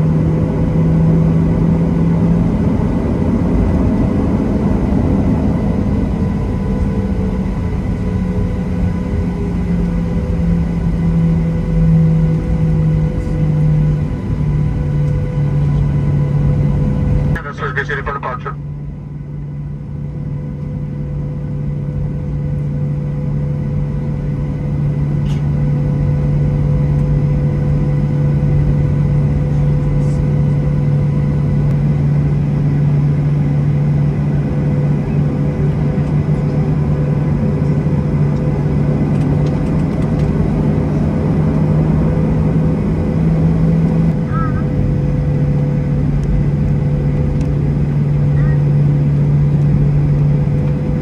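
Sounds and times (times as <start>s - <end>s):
jet engine drone in cabin: 0.0s - 51.0s.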